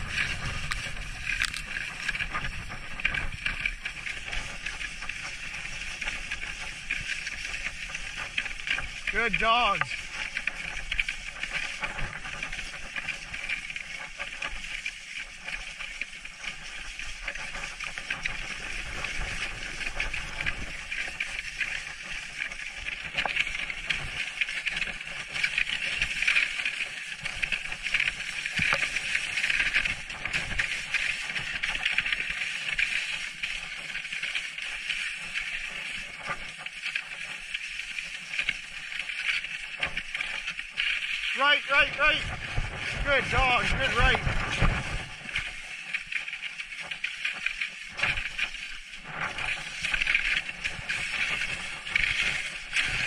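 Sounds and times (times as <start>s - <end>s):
sled runners scraping over snow: 0.0s - 53.0s.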